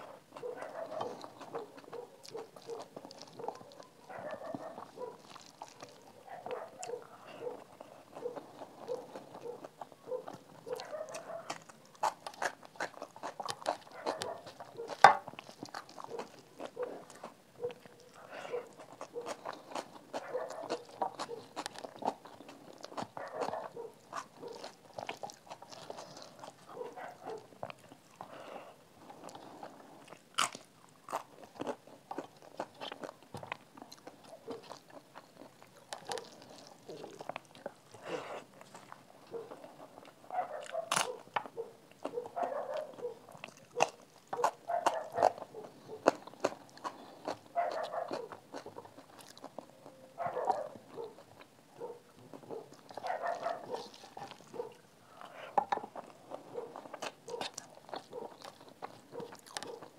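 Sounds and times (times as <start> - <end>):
crunchy bites: 0.0 - 59.9
person chewing: 0.0 - 59.9.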